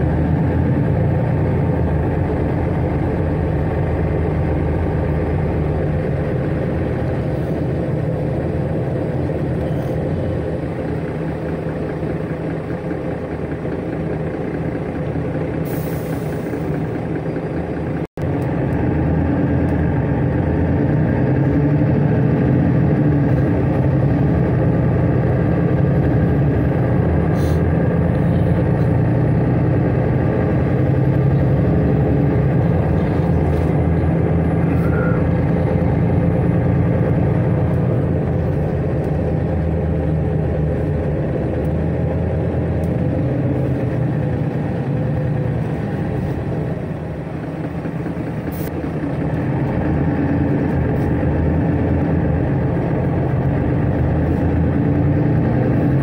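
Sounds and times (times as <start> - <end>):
bus engine hum: 0.0 - 56.0
road noise: 0.0 - 56.0.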